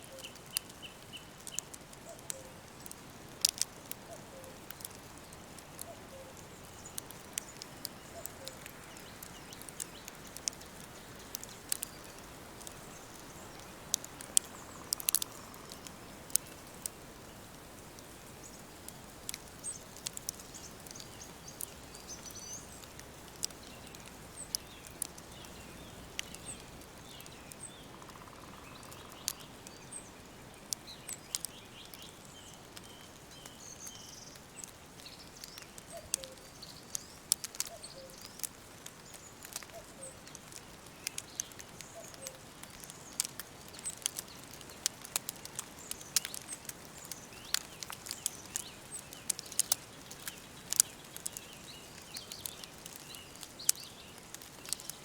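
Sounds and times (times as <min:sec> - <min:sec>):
birds chirping faintly: 0:00.0 - 0:55.0
wood fire crackling: 0:00.0 - 0:55.0.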